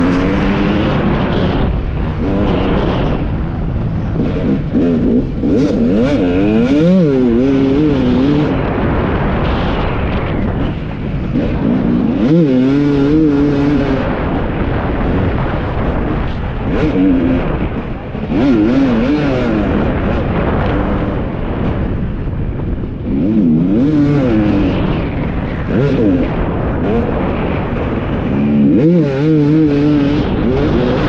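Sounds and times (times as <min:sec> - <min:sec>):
motocross engine revving: 0:00.0 - 0:21.9, 0:22.9 - 0:25.0, 0:25.6 - 0:31.0
steady rushing noise: 0:00.0 - 0:31.0.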